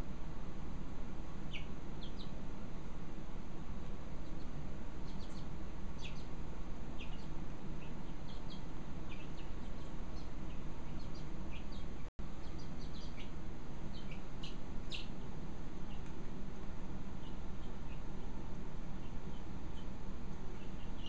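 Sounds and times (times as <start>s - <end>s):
steady low background noise: 0.0s - 21.0s
chicks peeping: 1.4s - 2.4s, 4.1s - 16.2s, 17.0s - 21.0s.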